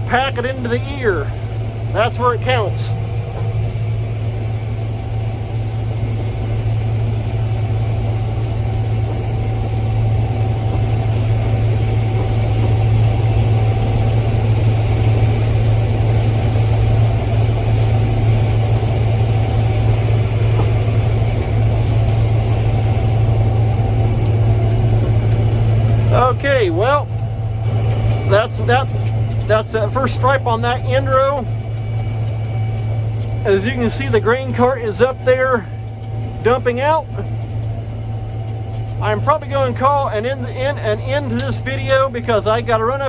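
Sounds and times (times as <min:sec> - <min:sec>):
combine harvester droning: 0:00.0 - 0:43.0.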